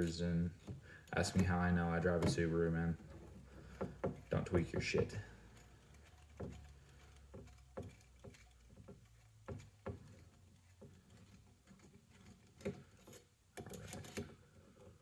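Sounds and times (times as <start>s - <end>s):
small tools and metal parts clicking: 0.0s - 15.0s.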